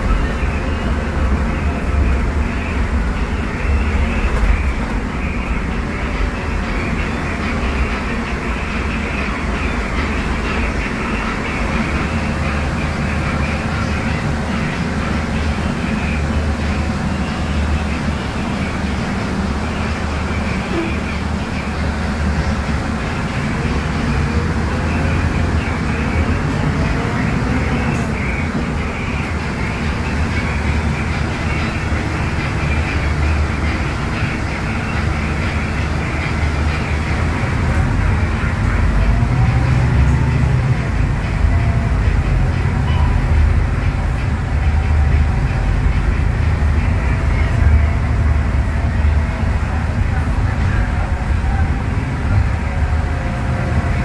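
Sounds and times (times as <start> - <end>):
bus diesel engine running: 0.0 - 54.0
road noise: 0.0 - 54.0.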